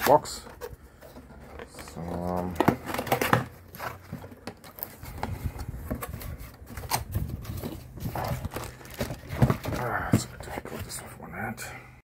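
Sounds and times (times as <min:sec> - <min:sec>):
cardboard box being opened: 0:00.0 - 0:11.0.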